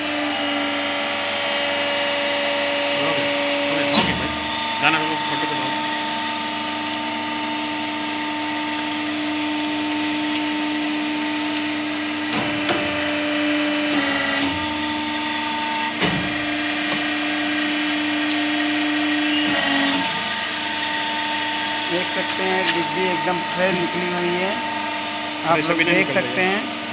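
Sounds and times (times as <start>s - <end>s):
moulding machine humming: 0.0s - 26.9s.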